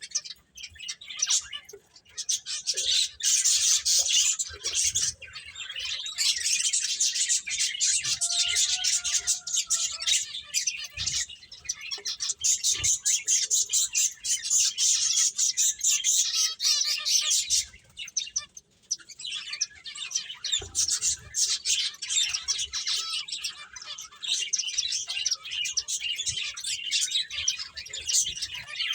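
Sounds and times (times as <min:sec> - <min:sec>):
finches chirping: 0:00.0 - 0:28.9.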